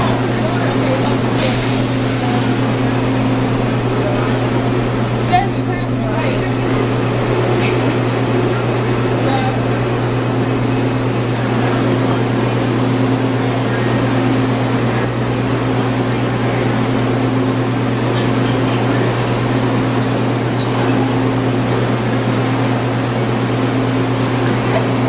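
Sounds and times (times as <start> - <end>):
train equipment low hum: 0.0 - 25.0.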